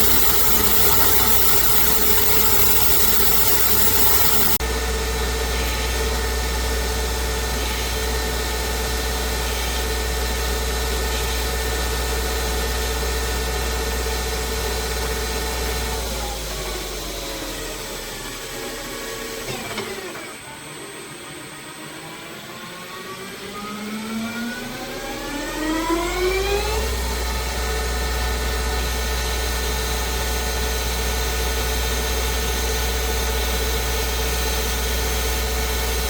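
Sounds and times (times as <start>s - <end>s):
lathe machine hum: 0.0s - 36.0s.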